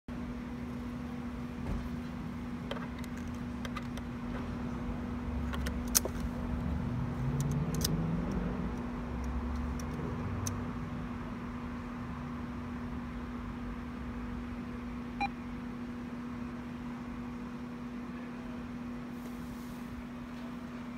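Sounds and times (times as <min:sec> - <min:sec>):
cash machine electrical hum: 0:00.1 - 0:20.9.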